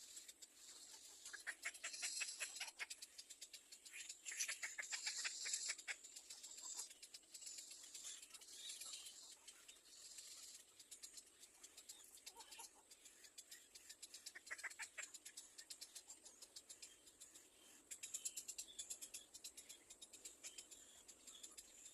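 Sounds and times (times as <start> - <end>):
nestling birds chirping: 0.0 - 21.9
short bird calls: 0.7 - 21.9.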